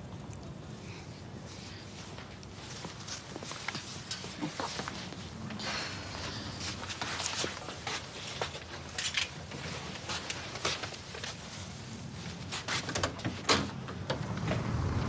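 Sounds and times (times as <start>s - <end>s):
soft rustles: 0.4s - 13.4s.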